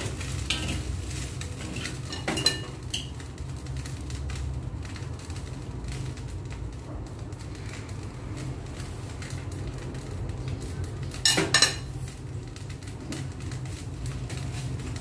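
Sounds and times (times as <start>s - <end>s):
gas burner humming: 0.0s - 15.0s.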